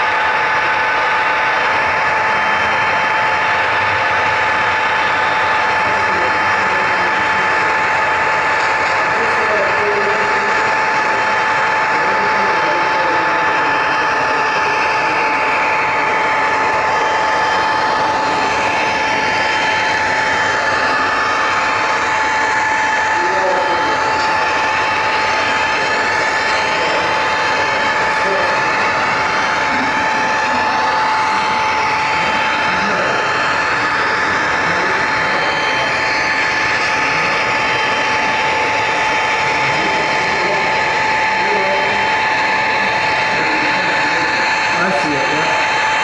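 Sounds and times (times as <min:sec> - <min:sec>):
high motor whine: 0:00.0 - 0:46.0.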